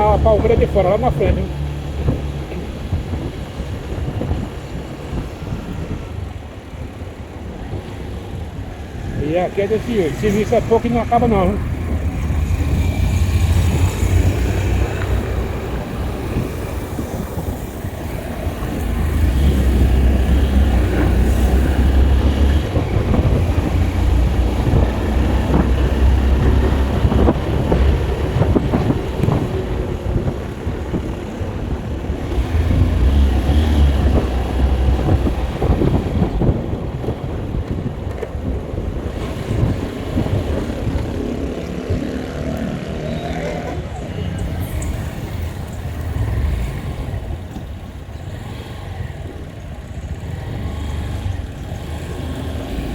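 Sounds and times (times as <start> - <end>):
heavy low rumbles: 0.0 - 52.9
vehicle road noise: 0.0 - 52.9
wind buffeting microphone: 0.0 - 52.9.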